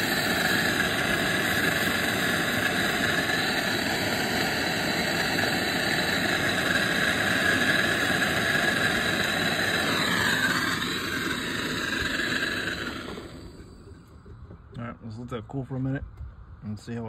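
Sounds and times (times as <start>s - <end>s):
torch flame roaring: 0.0s - 14.5s.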